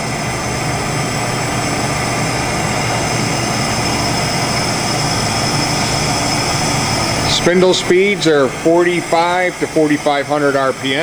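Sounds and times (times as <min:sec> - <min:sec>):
machinery hum with high whine: 0:00.0 - 0:11.0.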